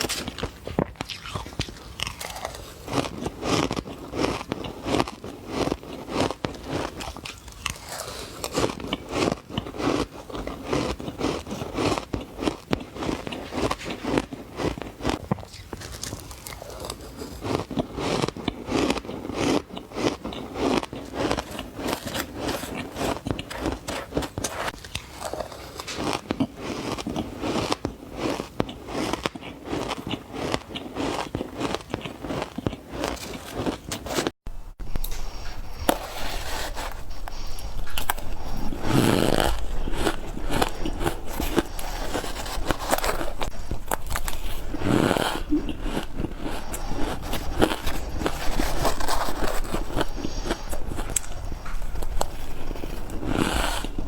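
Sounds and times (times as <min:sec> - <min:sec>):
powdery crunches of biting ice: 0:00.0 - 0:34.3, 0:35.0 - 0:54.0.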